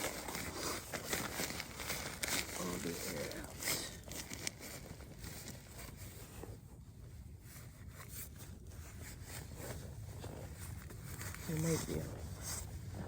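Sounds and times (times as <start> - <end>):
rustling of gear and clothing: 0.0 - 13.0.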